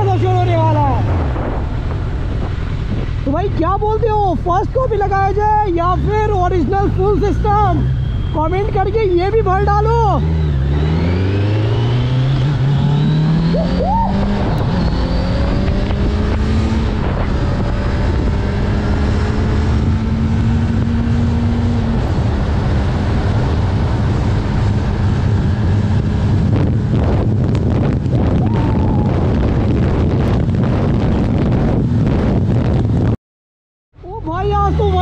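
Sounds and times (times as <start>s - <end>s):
motorcycle engine accelerating: 0.0s - 33.2s
wind noise on microphone: 0.0s - 33.2s.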